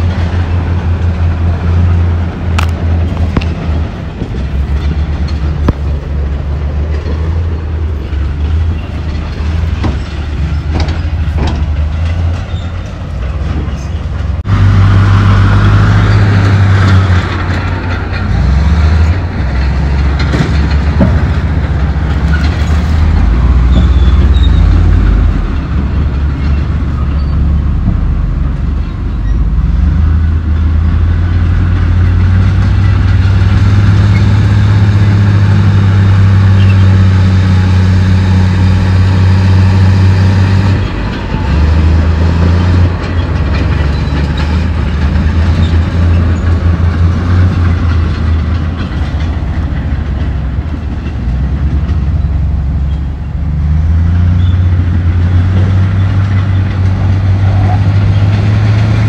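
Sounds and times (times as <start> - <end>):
bulldozer diesel engine: 0.0 - 59.0
steel tracks clanking: 0.0 - 59.0.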